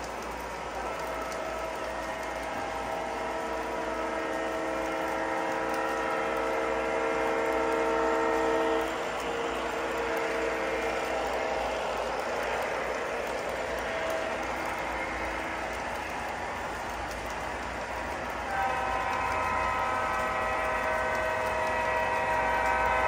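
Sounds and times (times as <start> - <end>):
model trains rumbling on track: 0.0 - 23.0
model locomotive horn chord: 0.8 - 16.2, 18.4 - 23.0.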